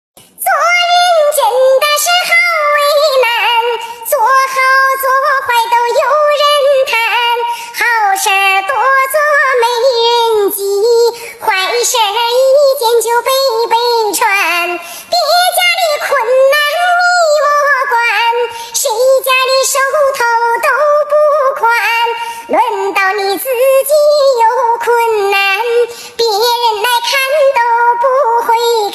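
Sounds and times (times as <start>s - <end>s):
high-pitched voice singing: 0.3s - 28.9s.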